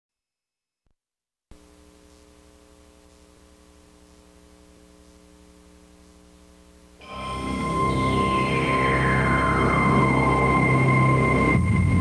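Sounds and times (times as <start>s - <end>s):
mains hum: 1.5s - 12.0s
tape hiss: 1.5s - 12.0s.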